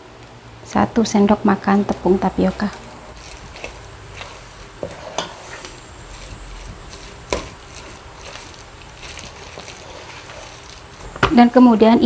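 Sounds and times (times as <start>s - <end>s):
spatula stirring thick filling: 1.7s - 12.0s.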